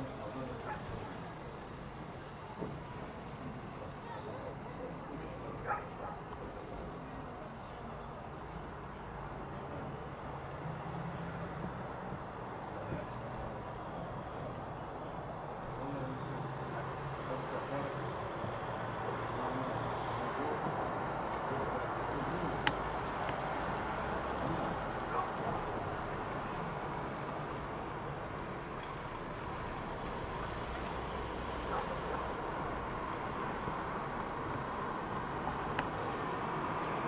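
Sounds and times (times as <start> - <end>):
cricket chirping: 0.0 - 37.0
distant traffic hum: 0.0 - 37.0.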